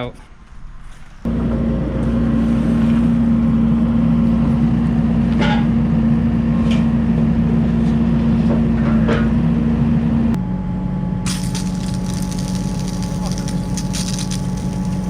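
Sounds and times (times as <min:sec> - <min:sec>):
diesel engine running: 0:01.3 - 0:15.0.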